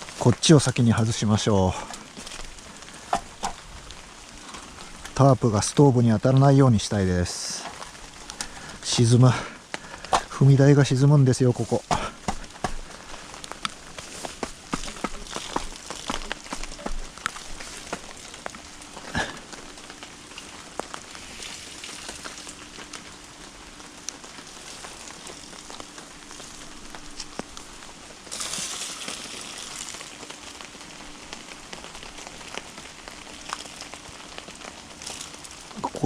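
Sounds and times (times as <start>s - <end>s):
fire crackling in stove: 0.0s - 36.0s.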